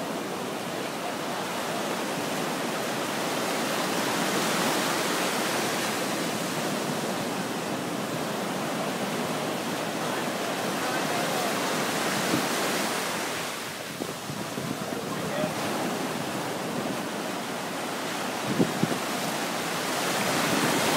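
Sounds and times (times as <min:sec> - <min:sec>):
surf washing through shallows: 0:00.0 - 0:20.9.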